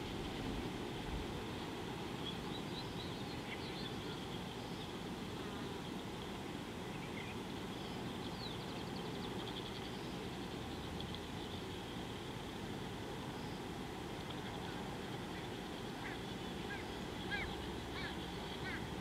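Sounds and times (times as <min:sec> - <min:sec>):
high insect hum: 0:00.0 - 0:19.0.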